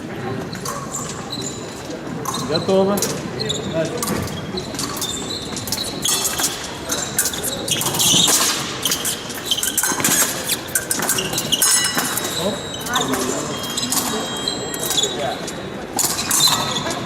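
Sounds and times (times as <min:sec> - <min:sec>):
shoes squeaking and stamping: 0:00.4 - 0:17.0.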